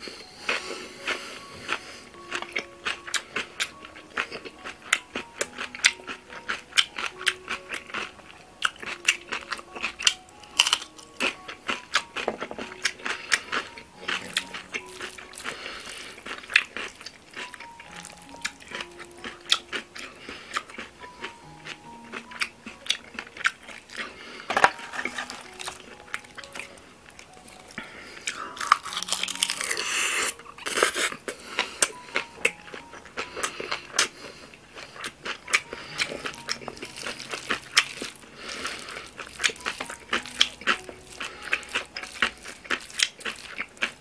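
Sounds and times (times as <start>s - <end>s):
crunchy chewing: 0.0s - 44.0s
soft background music: 0.0s - 44.0s.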